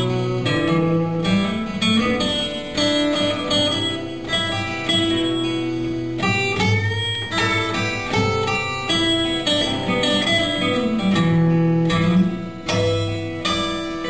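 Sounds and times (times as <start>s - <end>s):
acoustic guitars playing: 0.0s - 14.0s.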